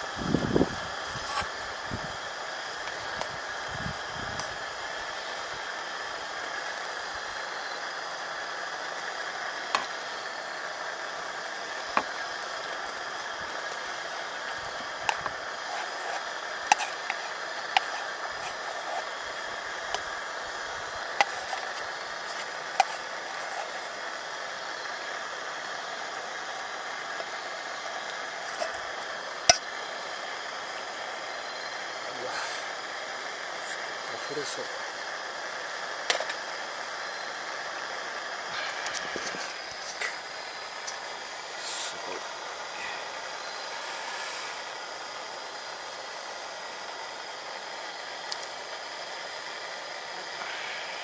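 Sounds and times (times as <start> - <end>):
wood fire hissing: 0.0 - 51.0.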